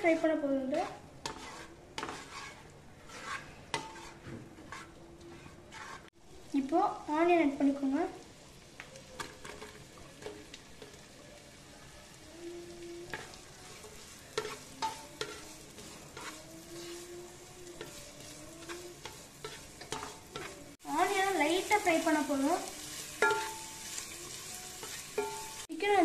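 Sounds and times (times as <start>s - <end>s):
spatula scraping pan: 0.0s - 6.2s, 9.2s - 11.2s, 12.4s - 25.8s
onion frying in butter: 0.0s - 26.0s.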